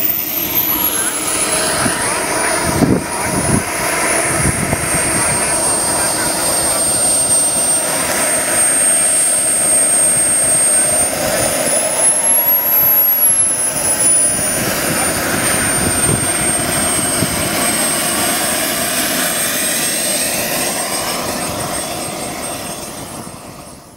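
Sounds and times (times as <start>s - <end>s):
model jet turbine whine: 0.0s - 23.9s.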